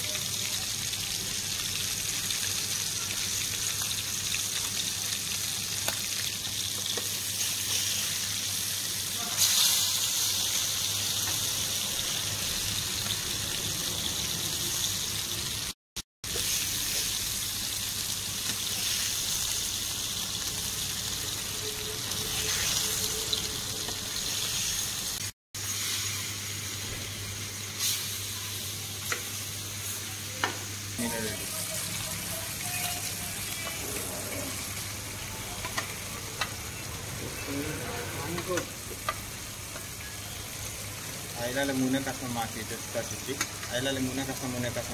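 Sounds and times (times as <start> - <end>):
fish sizzling in oil: 0.0 - 44.9.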